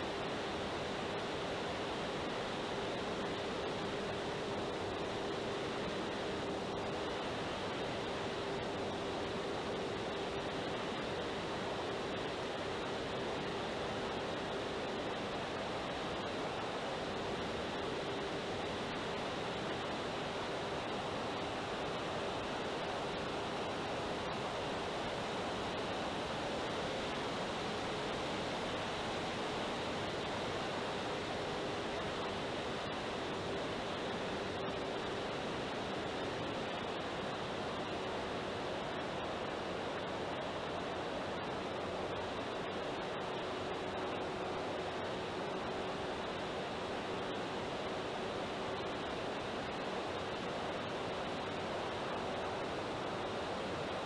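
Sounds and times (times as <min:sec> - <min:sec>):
motor and propeller hum: 0:00.0 - 0:54.0.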